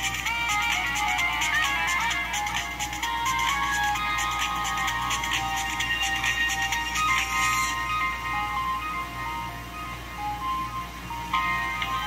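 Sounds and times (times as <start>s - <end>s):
electronic ringtone melody: 0.0s - 12.0s.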